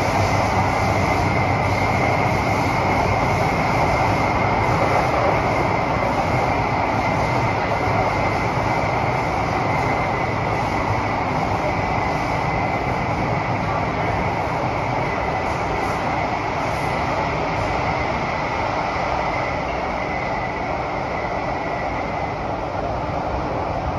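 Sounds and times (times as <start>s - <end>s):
train wheels rumbling on rail: 0.0s - 23.9s.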